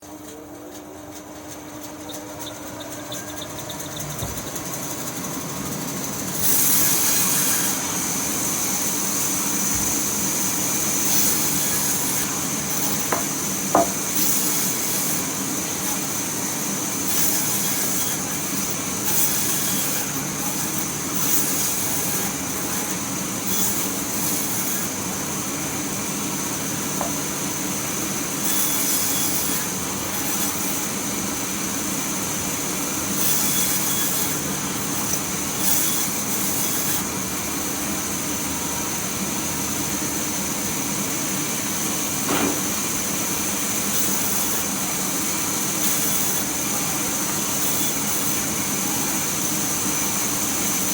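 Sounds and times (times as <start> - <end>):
sawmill machinery drone: 0.0 - 50.9.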